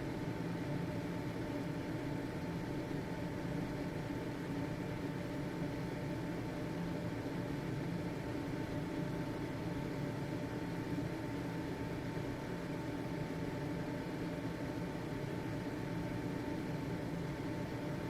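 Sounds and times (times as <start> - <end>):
ventilation fan running: 0.0 - 18.0.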